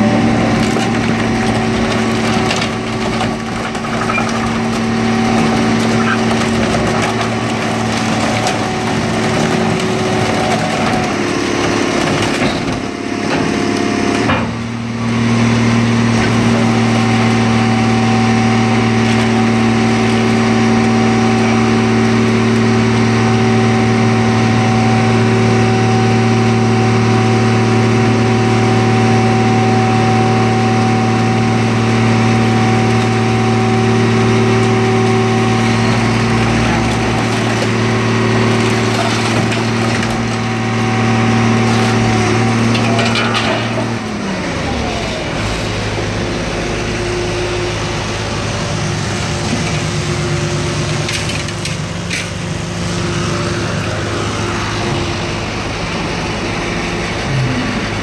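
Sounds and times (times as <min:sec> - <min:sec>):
hydraulic power unit humming: 0:00.0 - 0:58.0.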